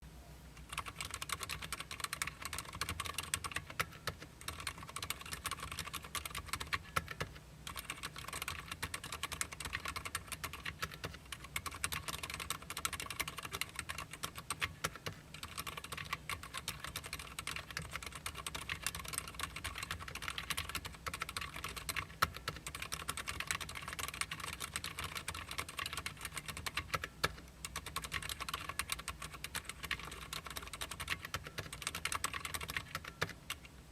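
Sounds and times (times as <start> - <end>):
mechanical keyboard typing: 0.6 - 33.7.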